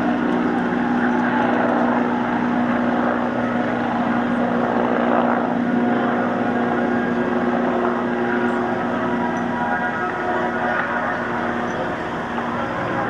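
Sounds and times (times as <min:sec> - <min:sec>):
helicopter turbine and rotors: 0:00.0 - 0:13.0.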